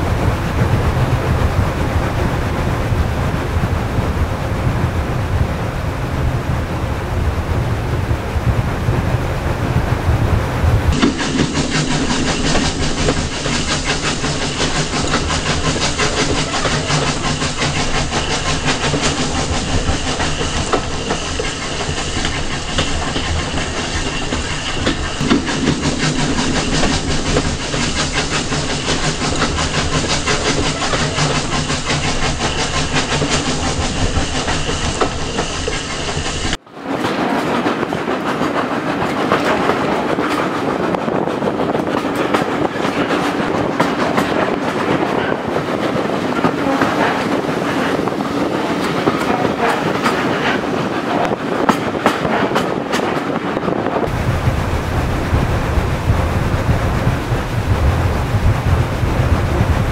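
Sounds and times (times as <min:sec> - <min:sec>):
train coaches rumbling: 0:00.0 - 0:59.9
wheels clacking over rail joints: 0:08.9 - 0:59.9.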